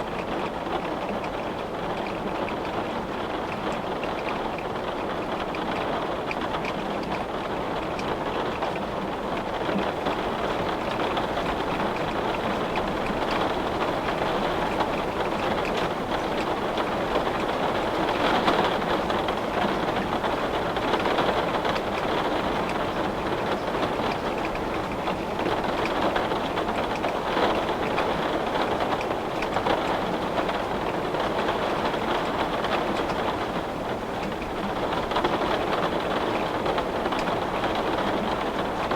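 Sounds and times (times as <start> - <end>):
heavy rain on glass: 0.0 - 38.9.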